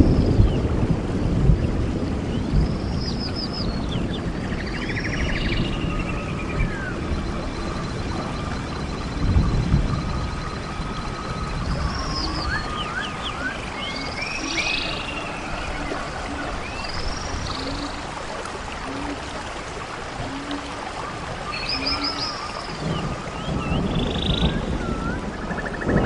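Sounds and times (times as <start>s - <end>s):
birds chirping: 2.3s - 19.4s, 20.1s - 26.0s.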